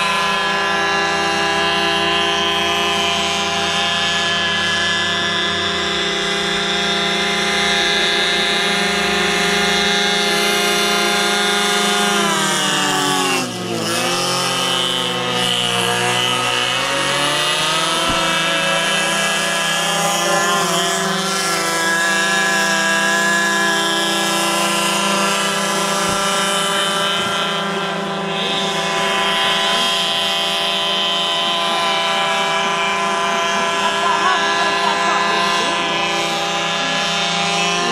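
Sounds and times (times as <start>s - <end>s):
small model boat engine: 0.0s - 37.9s.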